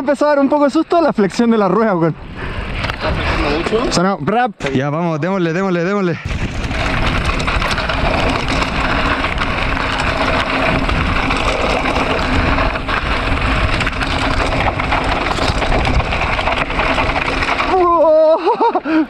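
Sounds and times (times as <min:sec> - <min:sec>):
bike tyres crunching on dirt: 0:00.0 - 0:04.0, 0:05.2 - 0:19.0
bike rattling over bumps: 0:00.0 - 0:19.0
wind buffeting microphone: 0:00.3 - 0:04.0, 0:06.0 - 0:18.1.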